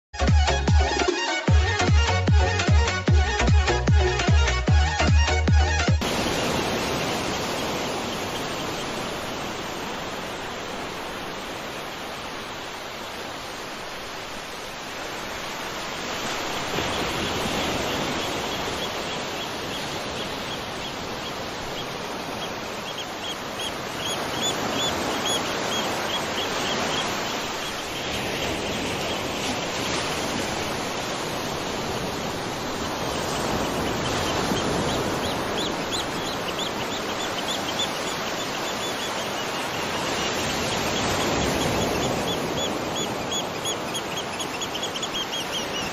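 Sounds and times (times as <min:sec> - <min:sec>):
waterfall rushing water: 0:06.0 - 0:45.9.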